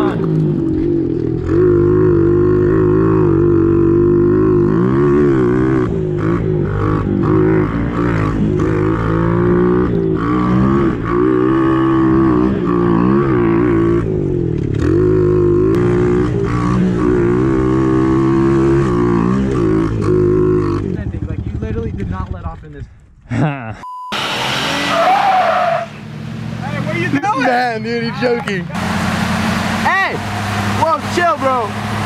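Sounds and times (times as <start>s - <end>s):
motorbike engine revving: 0.0s - 22.2s, 24.1s - 32.0s.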